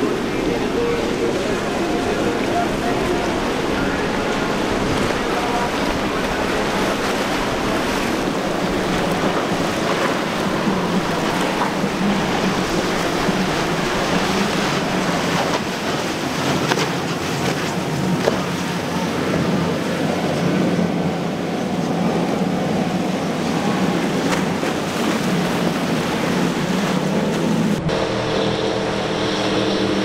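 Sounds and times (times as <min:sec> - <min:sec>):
boat engines running: 0:00.0 - 0:30.0
rush of hull spray: 0:00.0 - 0:30.0.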